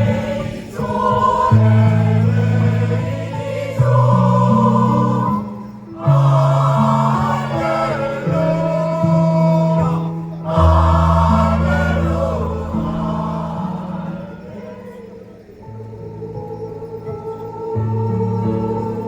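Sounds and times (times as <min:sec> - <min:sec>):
choir singing slow song: 0:00.0 - 0:19.0.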